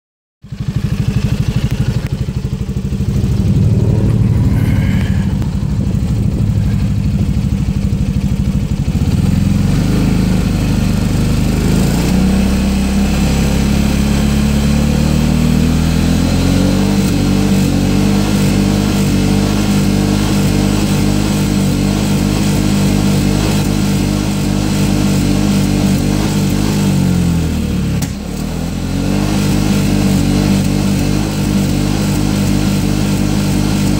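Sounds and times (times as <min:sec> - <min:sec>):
scooter engine idling and revving: 0:00.4 - 0:33.9.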